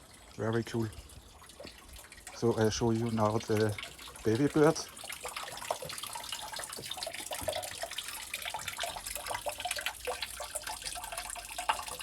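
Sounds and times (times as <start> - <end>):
spring water running and splashing: 0.0 - 12.0.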